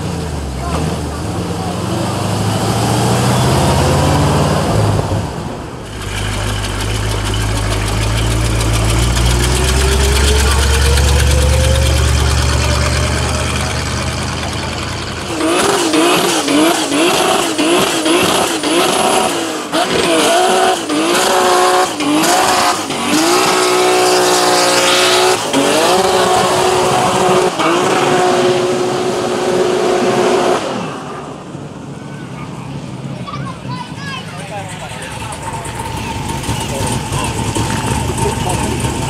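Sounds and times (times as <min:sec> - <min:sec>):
car engine revving: 0:00.0 - 0:33.4, 0:34.4 - 0:39.0.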